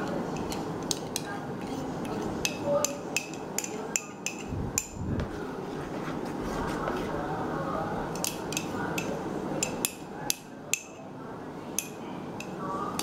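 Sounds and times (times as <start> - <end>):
low noise: 0.0 - 13.0.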